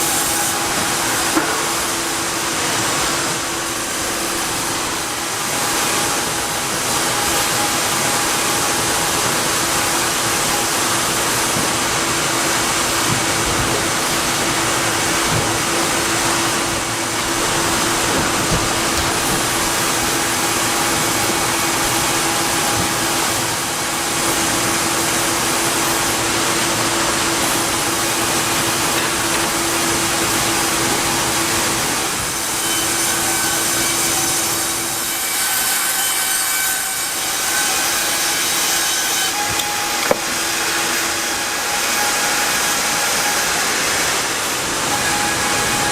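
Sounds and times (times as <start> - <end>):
woodworking machinery humming: 0.0 - 35.2, 36.7 - 45.9.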